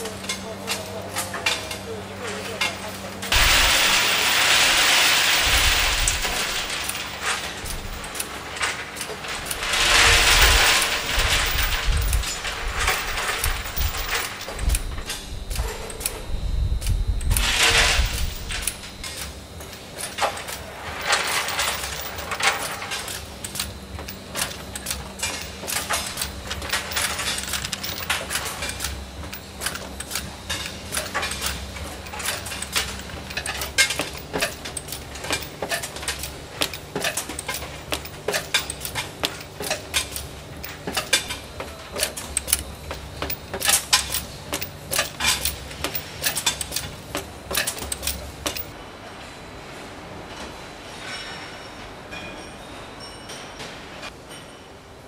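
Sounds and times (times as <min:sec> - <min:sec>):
machine humming: 0:01.9 - 0:48.7
metallic clinking and clatter: 0:02.4 - 0:16.2, 0:17.3 - 0:48.8.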